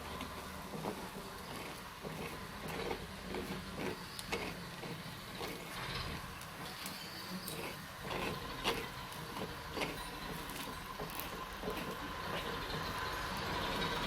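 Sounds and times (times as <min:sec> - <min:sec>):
spatula scraping and tapping pan: 0:00.0 - 0:14.0.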